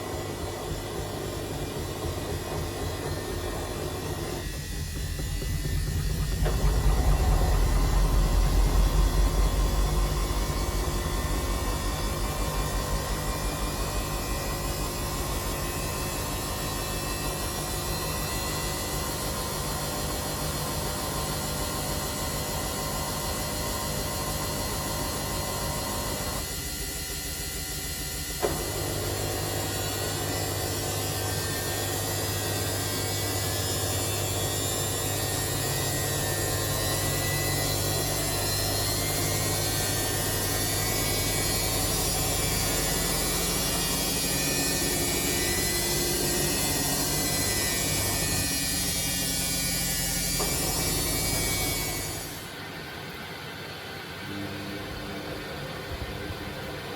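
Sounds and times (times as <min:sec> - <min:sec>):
washing machine hum with hiss: 0:00.0 - 0:56.9.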